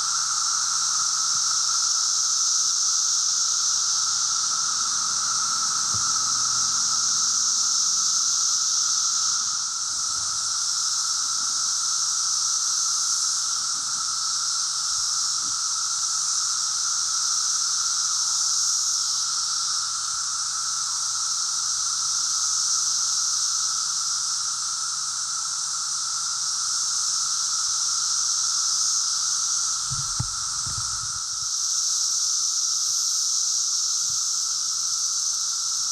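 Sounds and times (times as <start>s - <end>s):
cicadas buzzing: 0.0s - 35.9s.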